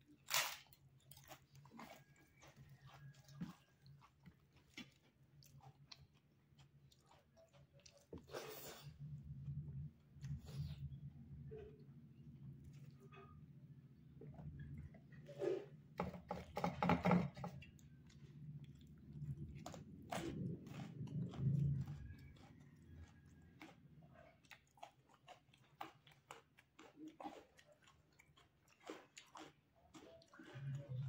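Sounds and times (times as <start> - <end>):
close chewing and mouth noises: 0.0 - 16.6, 17.3 - 31.0.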